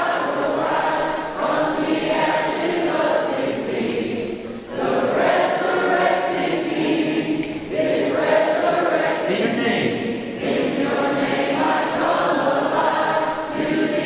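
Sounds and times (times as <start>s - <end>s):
group singing a worship song: 0.0s - 14.0s.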